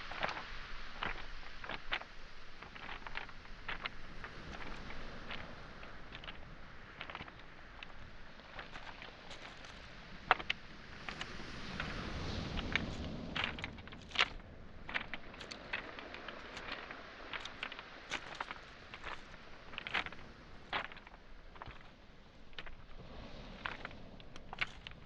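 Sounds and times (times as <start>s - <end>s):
footsteps on pebbles: 0.0s - 25.0s
waves washing on shore: 0.0s - 25.0s.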